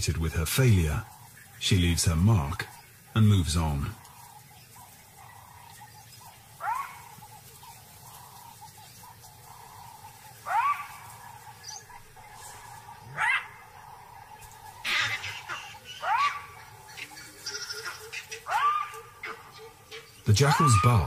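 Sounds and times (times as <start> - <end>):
jackal alarm barks: 2.7 - 21.0.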